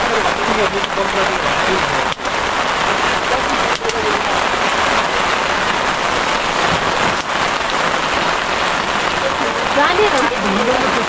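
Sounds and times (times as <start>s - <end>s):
rain on a tarp: 0.0s - 11.0s.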